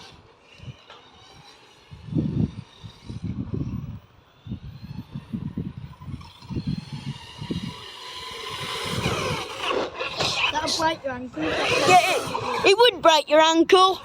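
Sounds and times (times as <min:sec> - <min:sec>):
rc car motor whine: 0:00.0 - 0:13.8.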